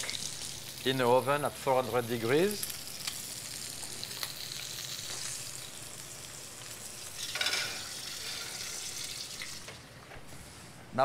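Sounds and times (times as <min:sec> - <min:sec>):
meat sizzling in a skillet: 0:00.0 - 0:09.8.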